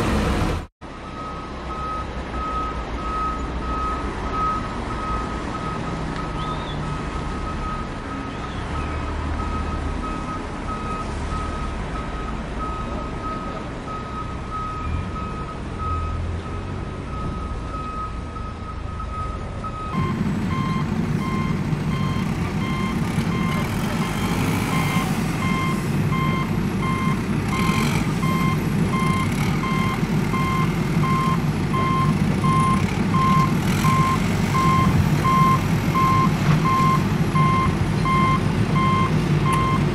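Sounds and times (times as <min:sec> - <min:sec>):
vehicle reversing alarm beeping: 0:01.0 - 0:39.9.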